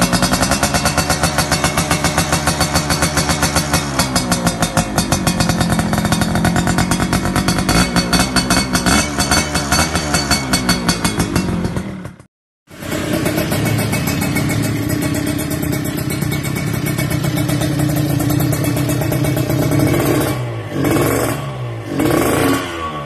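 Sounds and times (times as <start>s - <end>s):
two-stroke motorcycle revving: 0.0s - 23.0s.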